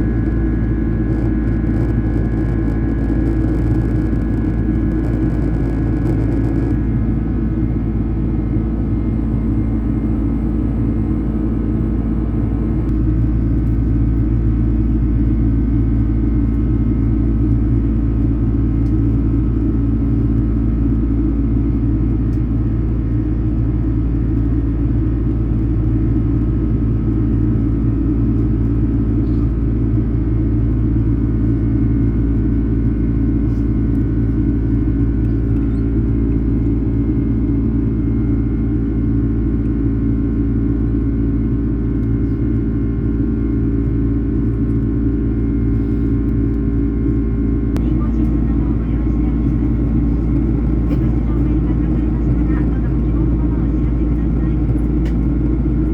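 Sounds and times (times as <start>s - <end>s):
constant low hum: 0.0s - 55.9s
jet airliner cabin rumble: 0.0s - 55.9s.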